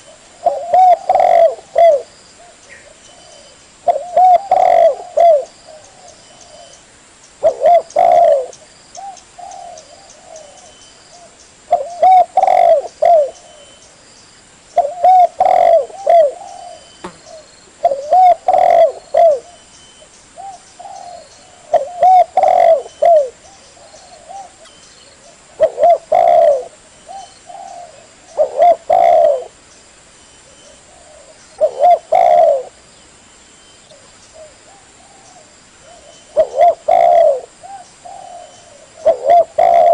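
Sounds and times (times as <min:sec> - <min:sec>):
dove cooing: 0:00.0 - 0:06.8, 0:07.4 - 0:13.8, 0:14.8 - 0:19.7, 0:20.4 - 0:29.6, 0:30.4 - 0:32.8, 0:33.9 - 0:39.9.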